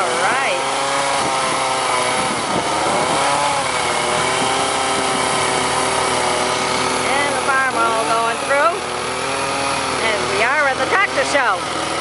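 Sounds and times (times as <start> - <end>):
chainsaw carving wood: 0.0 - 12.0.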